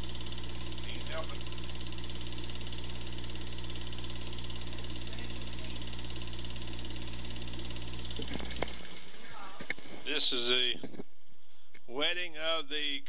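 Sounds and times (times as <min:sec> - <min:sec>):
film clattering through projector: 0:00.0 - 0:11.0
projector motor hum: 0:00.0 - 0:11.3.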